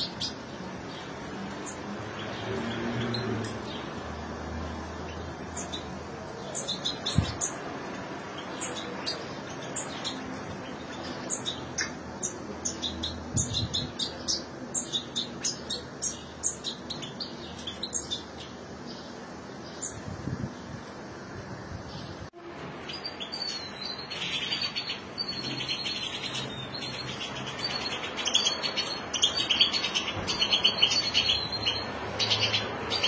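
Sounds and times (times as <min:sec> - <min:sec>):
finches chirping: 0:00.0 - 0:21.1, 0:22.8 - 0:33.0.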